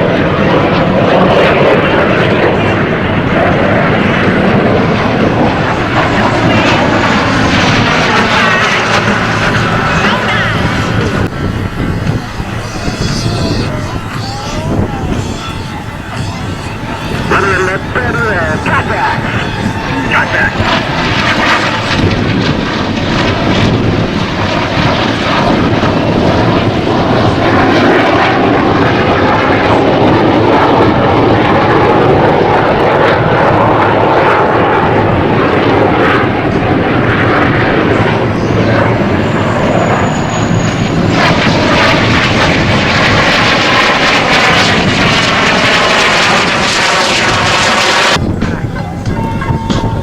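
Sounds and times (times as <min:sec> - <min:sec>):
jets flying overhead: 0:00.0 - 0:50.0.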